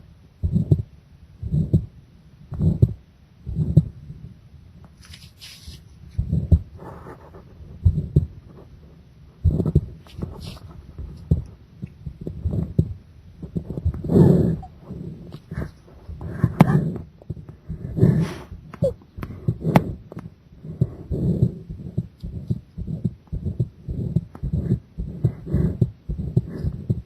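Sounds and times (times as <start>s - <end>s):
heartbeat thumps: 0.4s - 4.0s, 6.1s - 6.9s, 7.7s - 8.6s, 9.4s - 27.0s.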